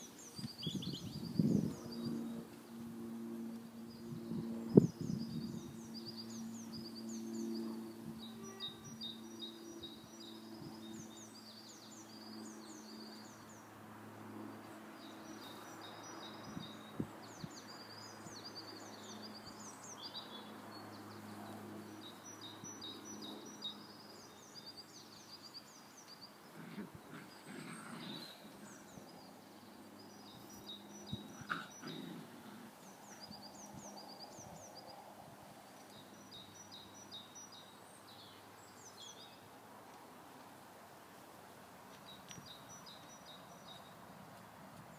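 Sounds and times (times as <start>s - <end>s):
small birds chirping: 0.0s - 13.8s, 14.4s - 41.3s, 41.9s - 44.9s
outdoor background noise: 0.0s - 44.9s.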